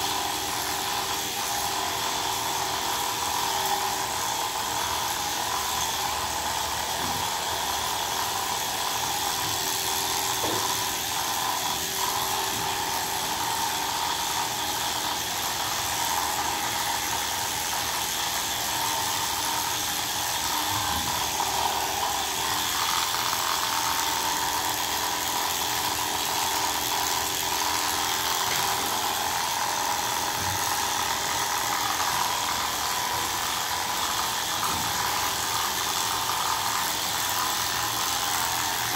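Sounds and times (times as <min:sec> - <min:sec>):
electric clipper buzzing: 0:00.0 - 0:38.9.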